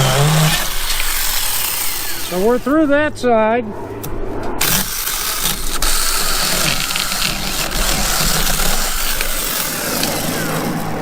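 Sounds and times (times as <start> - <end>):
chainsaw cutting wood: 0.0 - 2.8, 4.6 - 11.0.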